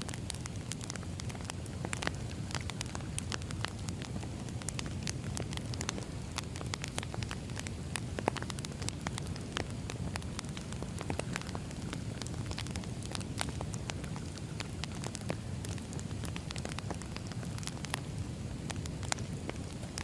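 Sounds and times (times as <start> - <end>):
firewood crackling and popping: 0.0 - 20.0
flames rumbling: 0.0 - 20.0.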